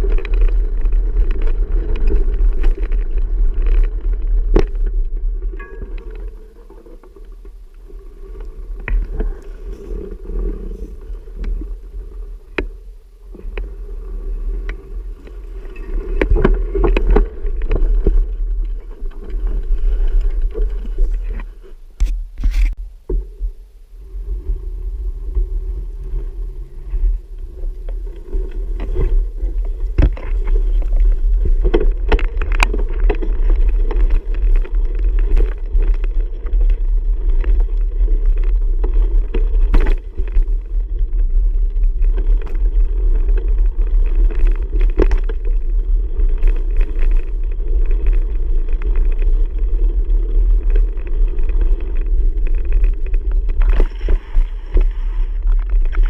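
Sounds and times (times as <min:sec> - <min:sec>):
bicycle tyres rumbling: 0:00.0 - 0:56.0
wind on microphone: 0:00.0 - 0:56.0.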